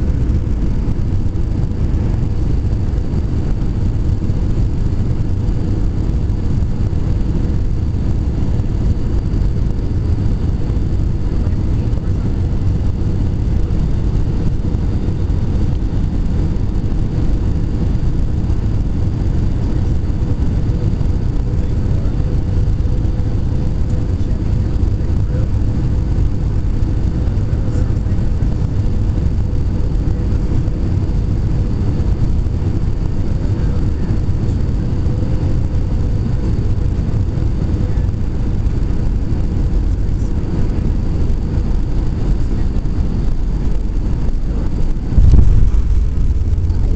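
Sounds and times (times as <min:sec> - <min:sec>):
faint steady hum: 0:00.0 - 0:46.9
jet engines rumbling: 0:00.0 - 0:46.9.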